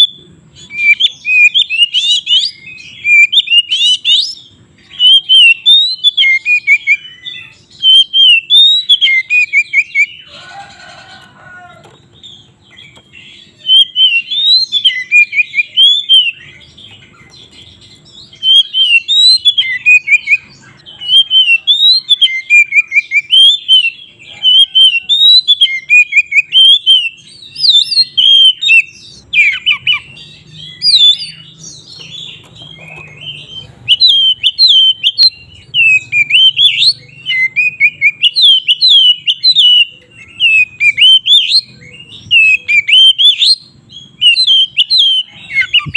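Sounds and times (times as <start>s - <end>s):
bird singing whistled phrases: 0.0s - 10.3s, 12.8s - 45.9s.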